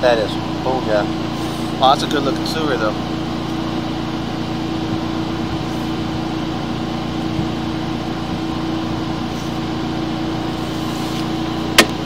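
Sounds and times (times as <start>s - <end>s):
engine droning hum: 0.0s - 12.0s.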